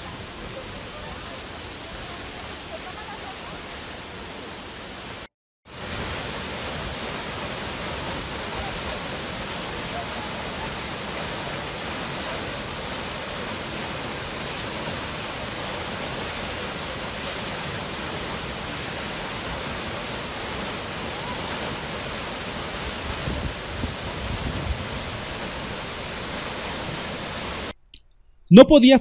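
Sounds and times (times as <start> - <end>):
waterfall rushing: 0.0 - 27.7.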